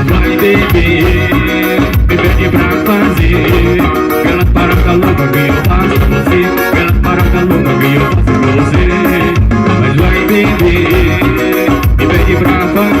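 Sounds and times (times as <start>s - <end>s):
band playing dance music: 0.0s - 13.0s
steady drum beat: 0.0s - 13.0s.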